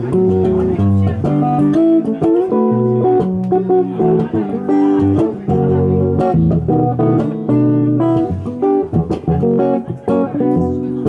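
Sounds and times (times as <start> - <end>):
guitar playing notes and chords: 0.0 - 11.0.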